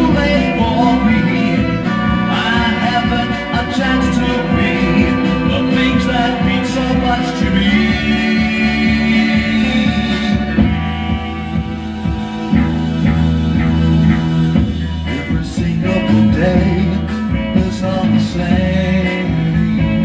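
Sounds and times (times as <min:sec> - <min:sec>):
garage rock record playing: 0:00.0 - 0:20.0
guitar: 0:00.0 - 0:20.0
person singing: 0:00.0 - 0:20.0.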